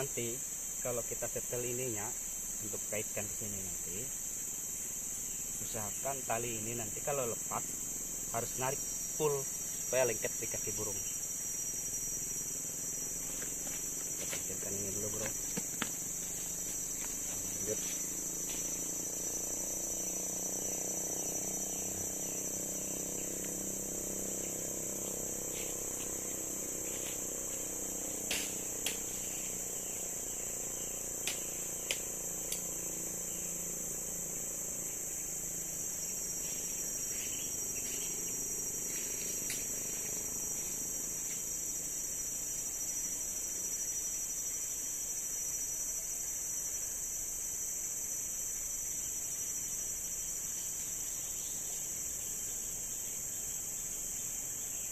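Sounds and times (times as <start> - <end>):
chorus of forest insects: 0.0 - 54.9.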